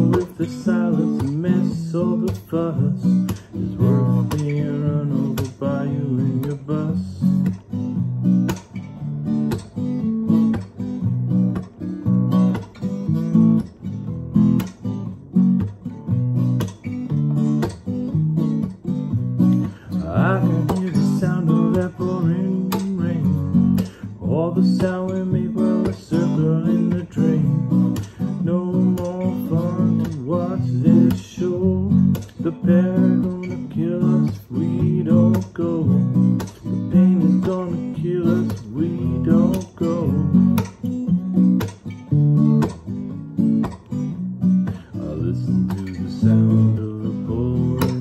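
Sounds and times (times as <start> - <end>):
acoustic guitar strumming chords: 0.0 - 48.0.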